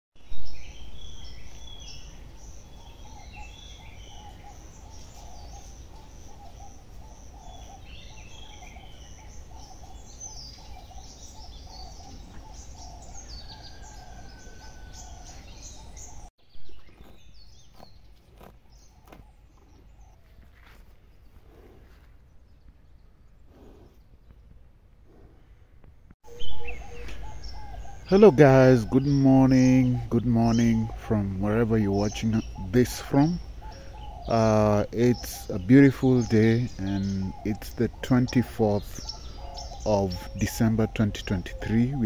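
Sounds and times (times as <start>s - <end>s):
birds chirping: 0.2s - 42.0s.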